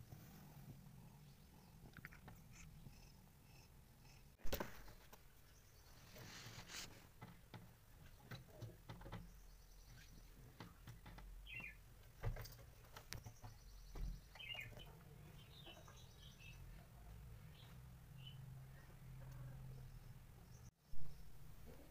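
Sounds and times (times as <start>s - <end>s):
small birds chirping: 0.3s - 4.4s, 5.2s - 6.8s, 8.0s - 21.9s.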